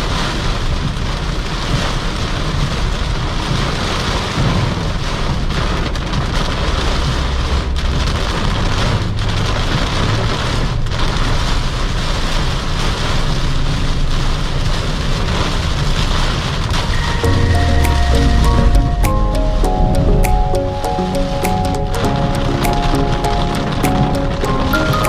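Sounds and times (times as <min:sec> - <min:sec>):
heavy rain pelting a car: 0:00.0 - 0:25.0
road and engine rumble: 0:00.0 - 0:25.0.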